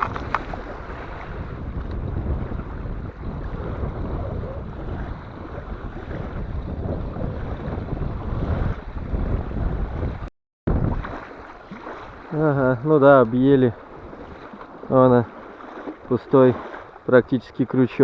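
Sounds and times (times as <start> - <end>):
waves on water: 0.0 - 18.0
wind buffeting microphone: 0.0 - 18.0.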